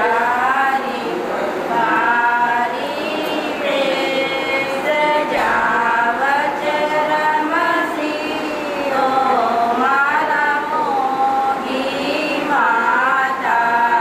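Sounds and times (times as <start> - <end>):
voices singing in chorus: 0.0 - 14.0.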